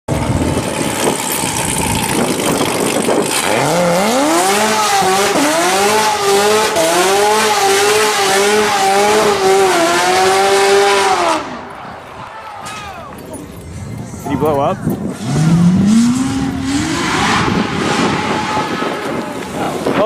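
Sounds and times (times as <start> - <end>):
car engine revving: 0.1 - 11.7, 15.0 - 19.9.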